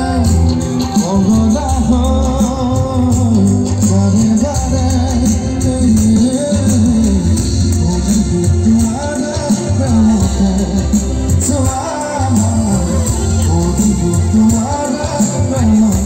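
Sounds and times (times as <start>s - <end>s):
heavy bass: 0.0s - 16.0s
percussion beat: 0.0s - 16.0s
person singing: 0.0s - 16.0s.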